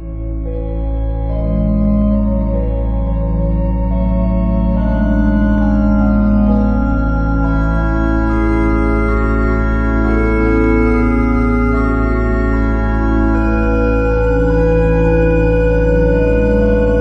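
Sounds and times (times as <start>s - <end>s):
low drone: 0.0s - 17.0s
organ-like chords: 0.0s - 17.0s.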